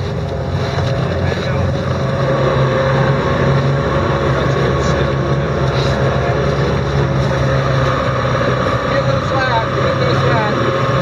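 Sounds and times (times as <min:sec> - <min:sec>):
outboard motor running: 0:00.0 - 0:11.0
steady rushing noise: 0:00.0 - 0:11.0.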